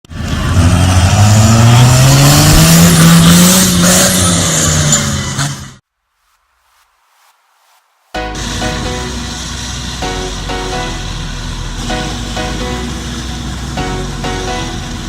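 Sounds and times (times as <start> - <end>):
loud engine revving: 0.1 - 5.8, 8.3 - 15.0.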